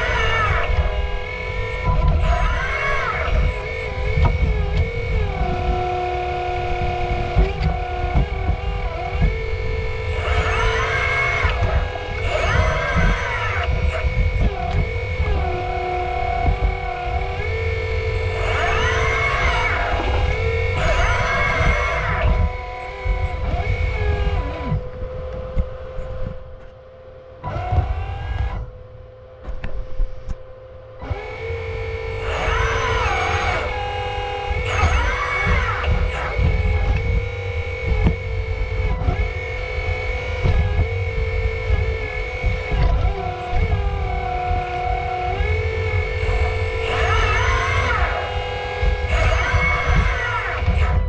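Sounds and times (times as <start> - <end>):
hydraulic pump whining: 0.0 - 51.0
rumble of working noise: 0.0 - 51.0.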